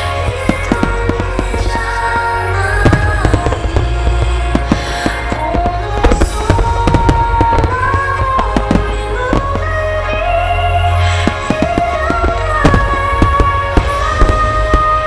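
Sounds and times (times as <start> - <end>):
fireworks bursting and crackling: 0.0 - 15.0
low rumble: 0.0 - 15.0
melodic music: 0.0 - 15.0.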